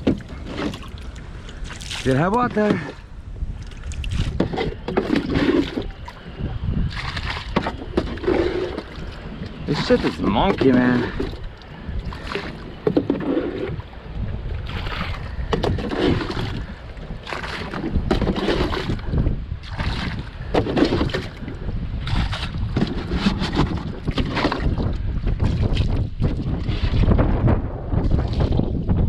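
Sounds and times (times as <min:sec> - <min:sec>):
water splashing in a boat: 0:00.0 - 0:29.0
wind rumbling on microphone: 0:00.0 - 0:29.0.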